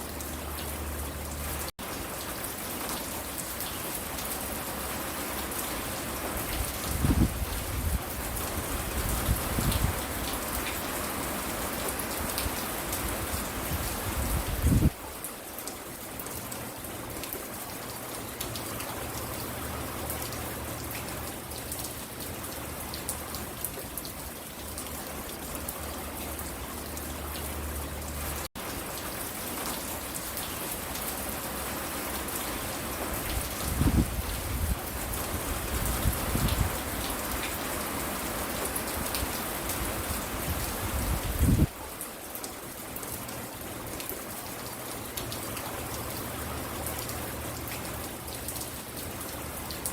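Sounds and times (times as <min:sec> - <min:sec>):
rain pattering on porch: 0:00.0 - 0:49.9.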